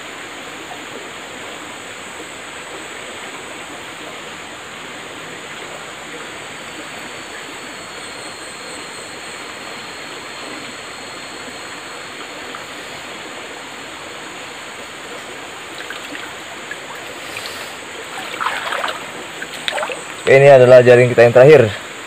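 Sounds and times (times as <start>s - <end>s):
river water flowing: 1.3s - 20.9s.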